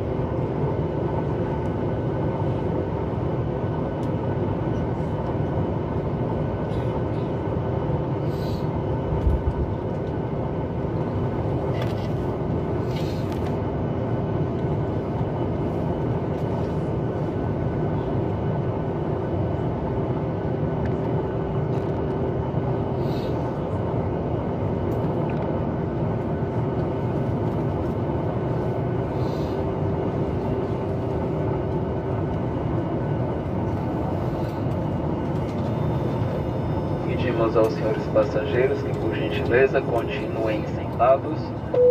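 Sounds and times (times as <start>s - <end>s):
airplane cabin rumble: 0.0s - 41.9s
constant hum: 0.0s - 41.9s.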